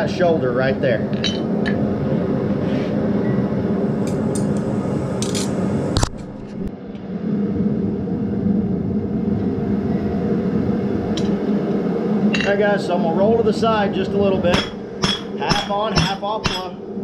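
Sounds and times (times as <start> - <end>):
forge drone: 0.0 - 17.0.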